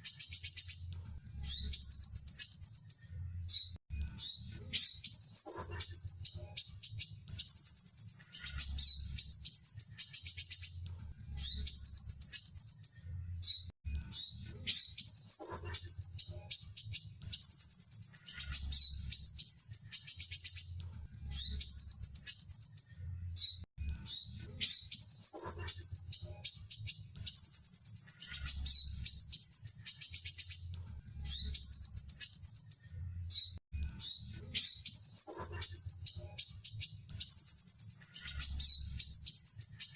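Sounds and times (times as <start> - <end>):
sunbird trilling song: 0.0 - 39.9.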